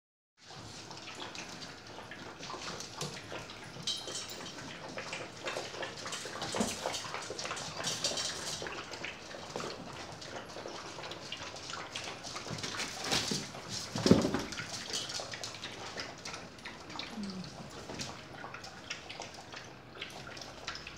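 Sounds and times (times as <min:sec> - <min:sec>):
puppies lapping and chewing: 0:00.4 - 0:20.9.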